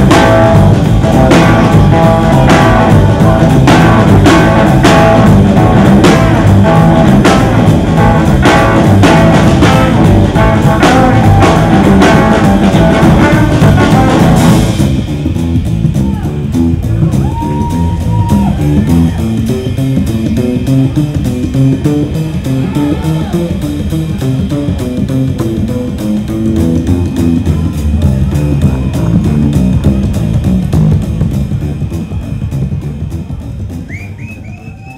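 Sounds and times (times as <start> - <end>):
electric guitar: 0.0 - 31.6
bass guitar: 0.0 - 34.9
steady drum beat: 0.0 - 34.9.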